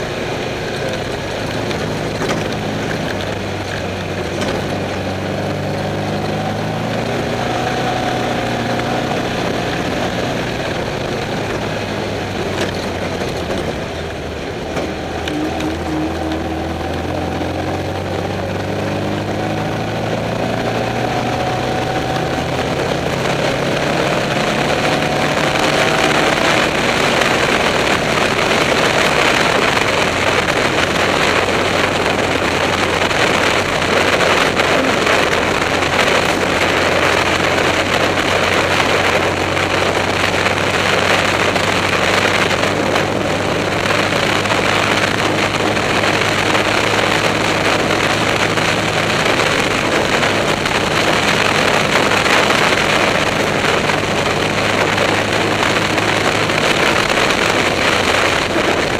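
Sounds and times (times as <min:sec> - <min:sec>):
race car engine running: 0:00.0 - 0:58.9
wind noise on microphone: 0:00.0 - 0:58.9.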